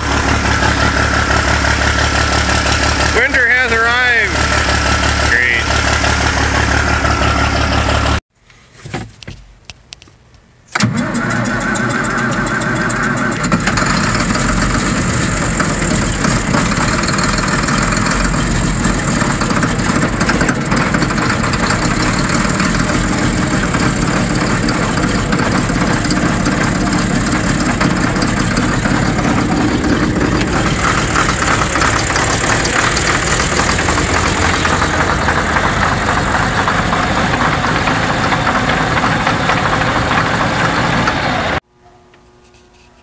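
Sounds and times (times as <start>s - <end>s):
diesel engine cranking and running: 0.0s - 8.2s, 10.7s - 41.6s.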